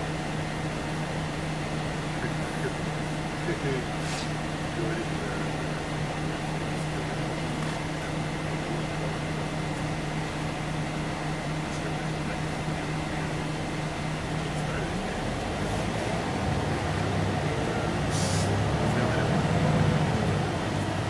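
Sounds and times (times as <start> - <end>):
bus diesel engine running: 0.0 - 21.0
thin steady whine: 0.0 - 21.0.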